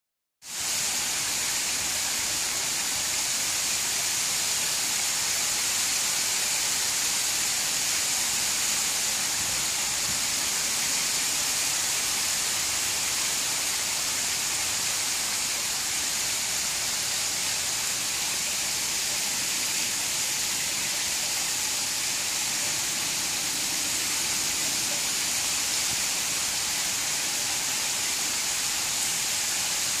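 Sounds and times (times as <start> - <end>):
water splashing down cascade: 0.5 - 30.0.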